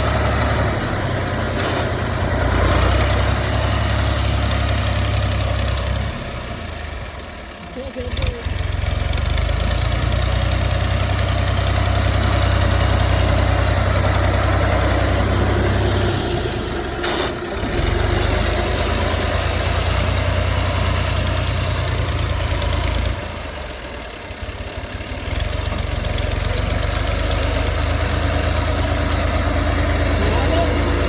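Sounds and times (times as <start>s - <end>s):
engine knock: 0.0s - 31.0s
tractor diesel engine rumbling: 0.0s - 31.0s.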